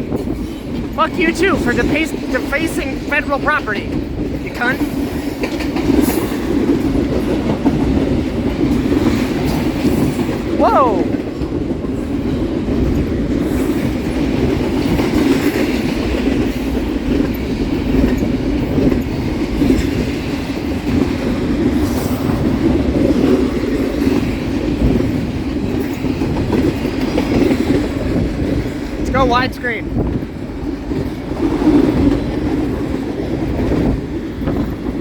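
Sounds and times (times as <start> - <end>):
clickety-clack of rail joints: 0.0 - 35.0
train wheels rumbling on rail: 0.0 - 35.0.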